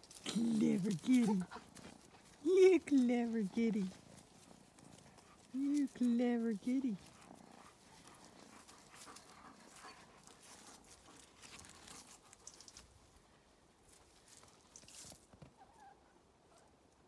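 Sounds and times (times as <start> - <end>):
faint rustles: 0.0 - 16.8.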